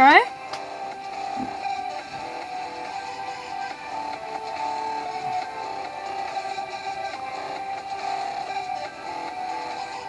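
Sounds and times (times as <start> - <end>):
intro music through computer speakers: 0.0 - 10.0.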